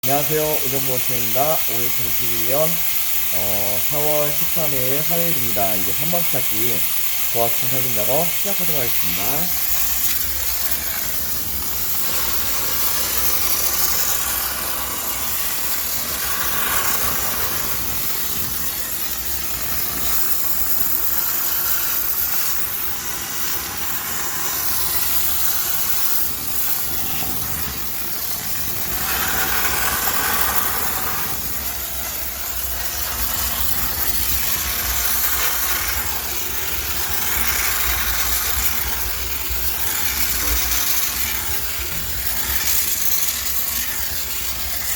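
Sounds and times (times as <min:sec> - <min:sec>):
steam cleaner hissing: 0:00.0 - 0:44.9.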